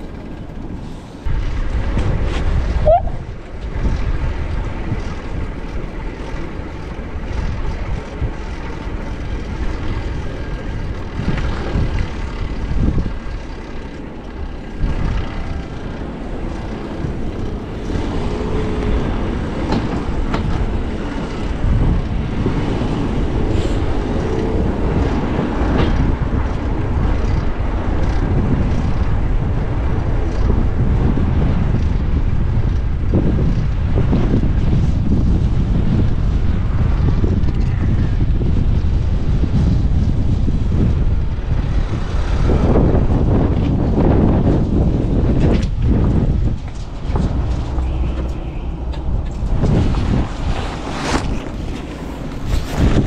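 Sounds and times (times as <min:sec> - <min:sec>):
traffic going by: 0:00.0 - 0:53.0
wind rushing over microphone: 0:00.0 - 0:53.0.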